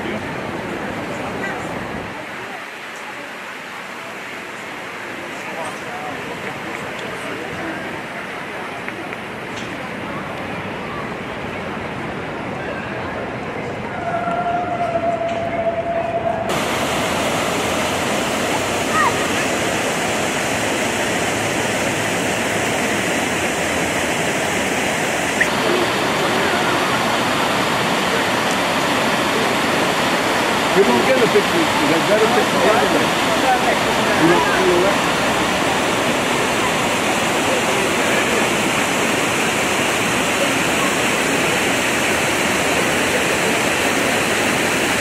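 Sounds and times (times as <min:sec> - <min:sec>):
fountain water splashing: 0:00.0 - 0:13.3, 0:16.5 - 0:45.0.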